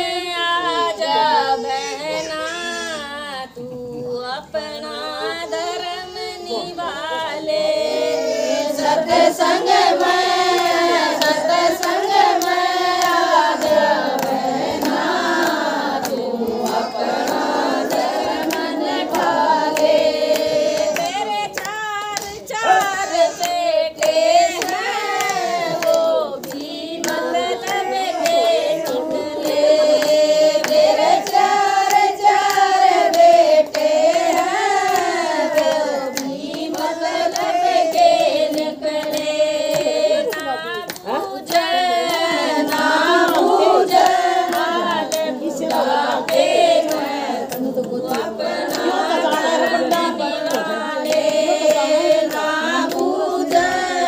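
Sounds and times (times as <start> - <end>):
women singing in unison: 0.0 - 54.0
hand-clapping: 8.5 - 54.0.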